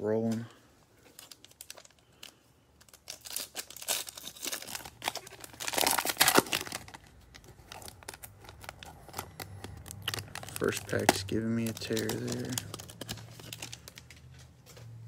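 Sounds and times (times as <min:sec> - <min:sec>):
foil wrapper crinkling: 0:01.0 - 0:14.8.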